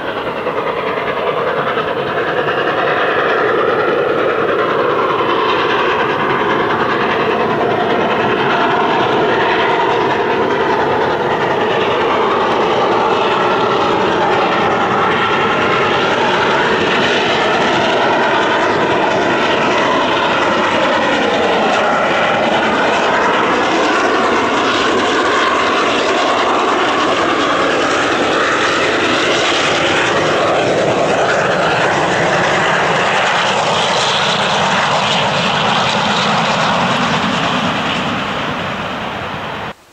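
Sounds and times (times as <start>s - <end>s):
loud mechanical drone: 0.0s - 39.8s.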